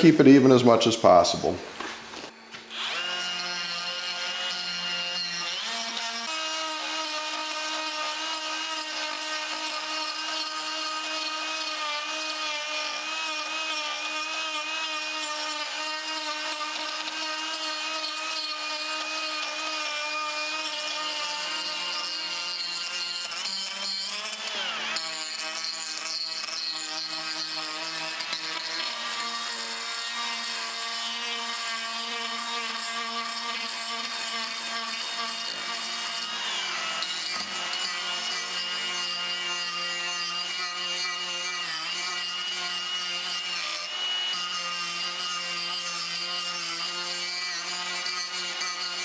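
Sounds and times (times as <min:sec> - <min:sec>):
die grinder whining: 0:02.2 - 0:49.0.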